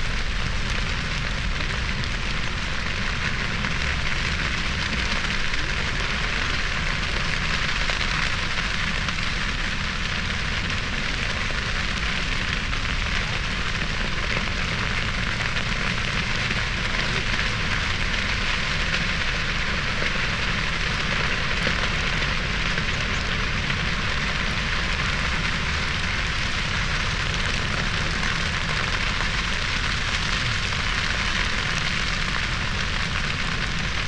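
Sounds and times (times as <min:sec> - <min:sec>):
grass fire crackling and hissing: 0:00.0 - 0:34.0
low rumble: 0:00.0 - 0:34.0.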